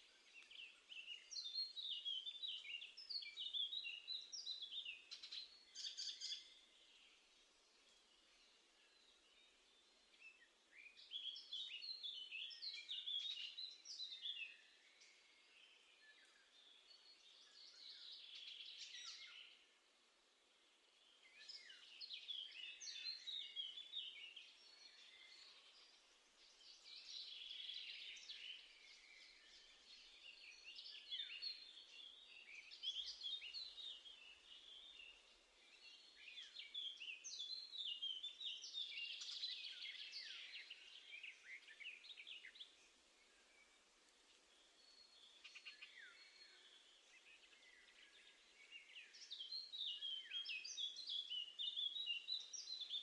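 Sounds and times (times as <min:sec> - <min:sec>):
small songbirds twittering: 0:00.0 - 0:53.0.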